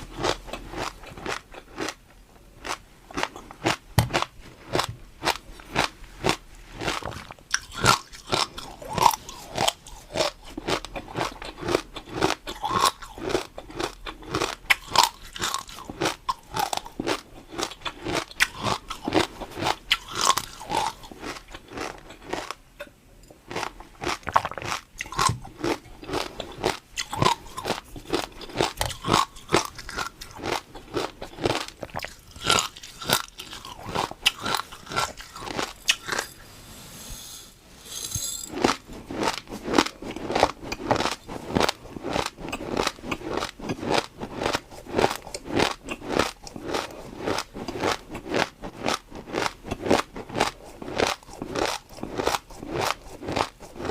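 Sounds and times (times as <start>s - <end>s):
crunching and chewing crisp food: 0.0s - 36.4s, 38.0s - 53.9s.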